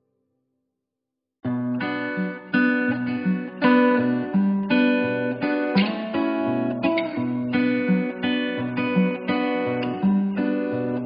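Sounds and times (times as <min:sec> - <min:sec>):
strummed guitar: 0:01.4 - 0:11.0.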